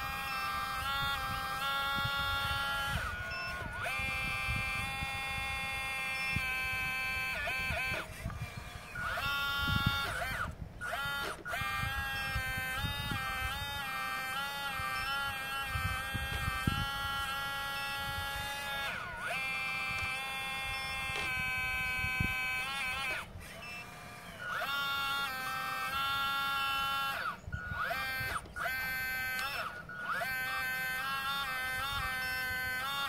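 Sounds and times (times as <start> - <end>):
hydraulic pump motor whining: 0.0 - 33.0.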